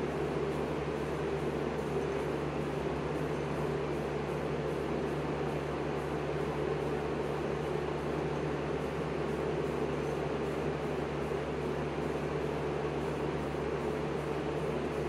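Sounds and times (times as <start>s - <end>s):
electric fan whirring: 0.0s - 15.0s
low mains hum: 0.0s - 15.0s.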